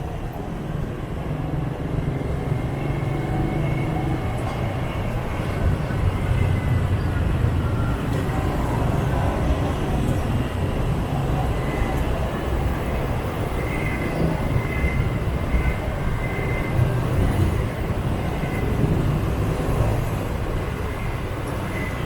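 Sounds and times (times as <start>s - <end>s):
scooter engine and road noise: 0.0s - 22.0s
surrounding motorbike traffic: 0.0s - 22.0s.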